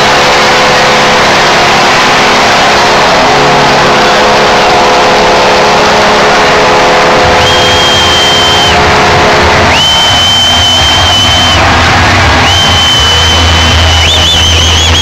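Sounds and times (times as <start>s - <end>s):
goal horn low chord: 0.0s - 14.4s
crowd cheering loudly: 0.0s - 15.0s.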